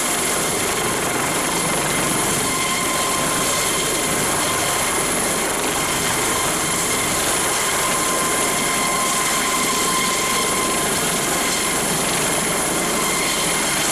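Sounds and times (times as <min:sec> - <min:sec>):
helicopter rotor and engine rush: 0:00.0 - 0:13.9
high turbine whine: 0:00.0 - 0:13.9.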